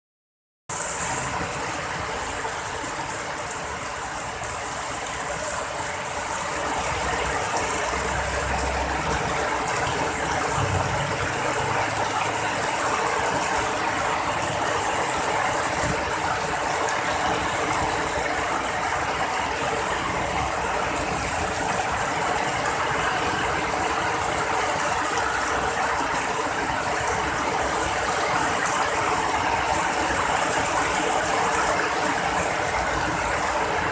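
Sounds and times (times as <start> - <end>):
heavy rain on a flooded street: 0.7 - 33.9.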